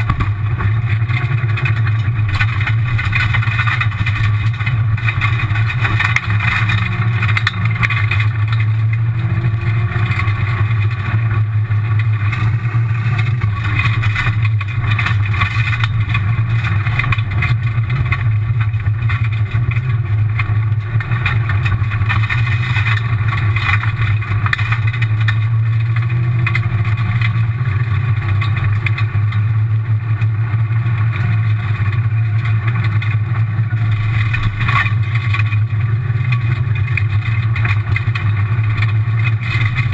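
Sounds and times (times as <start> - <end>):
rally car engine running hard: 0.0 - 39.9
tyres rumbling on gravel: 0.0 - 39.9.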